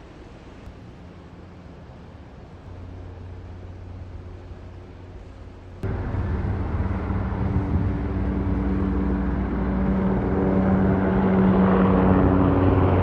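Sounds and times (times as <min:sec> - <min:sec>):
engine droning: 0:00.7 - 0:13.0.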